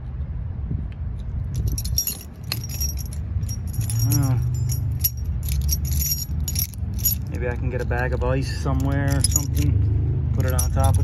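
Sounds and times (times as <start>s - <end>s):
keys jangling on key ring: 1.6s - 11.0s.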